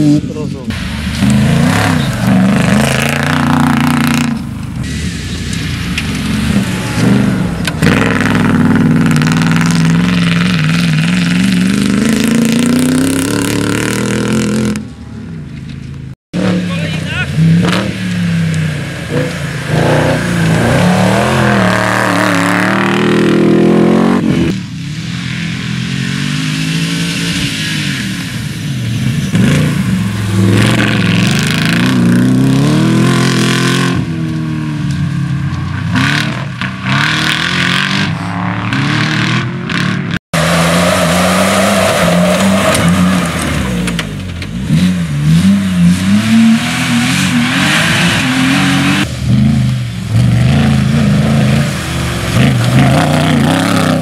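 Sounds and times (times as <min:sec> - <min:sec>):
rally car engines revving: 0:00.0 - 0:15.8, 0:16.4 - 0:54.0.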